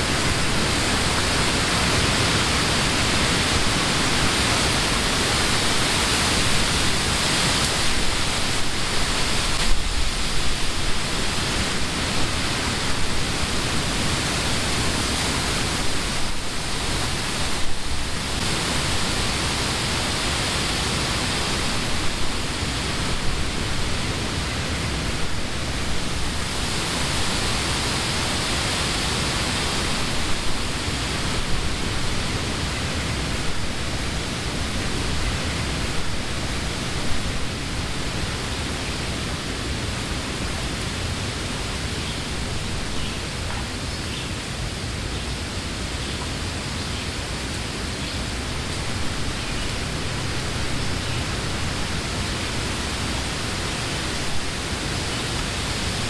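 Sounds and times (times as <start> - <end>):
wind through leafy trees: 0.0 - 56.0.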